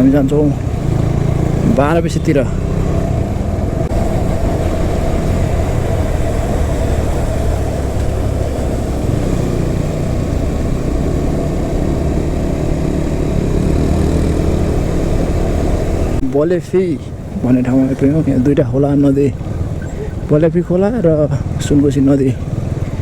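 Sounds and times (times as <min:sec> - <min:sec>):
motorcycle engine rumble: 0:00.0 - 0:23.0
road noise: 0:00.0 - 0:23.0.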